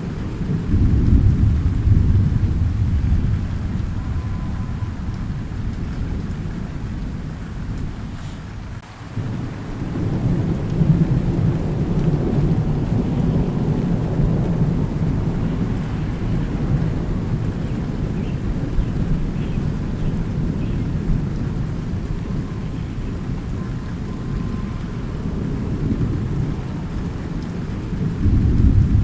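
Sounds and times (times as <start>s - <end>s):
rolling thunder: 0.0s - 29.0s
steady rain: 0.0s - 29.0s.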